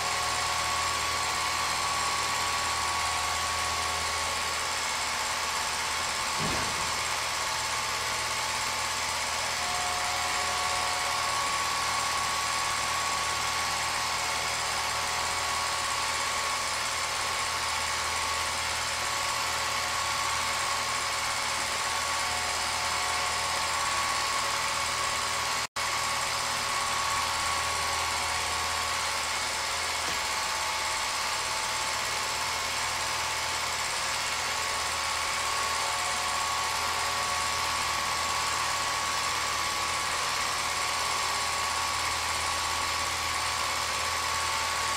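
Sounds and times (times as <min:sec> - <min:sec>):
film projector whirring: 0:00.0 - 0:44.9.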